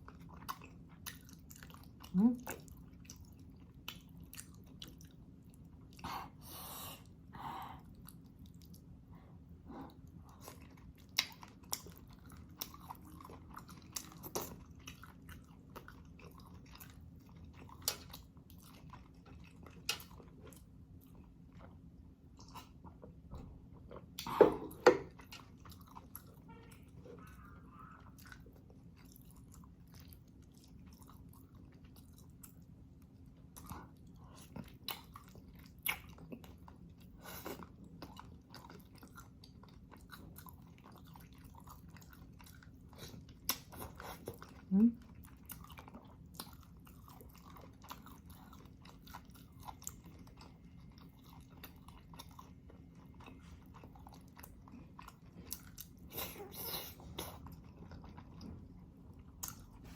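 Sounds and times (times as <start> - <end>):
chewing and biting: 0.0 - 6.0, 9.9 - 26.5, 28.0 - 59.9.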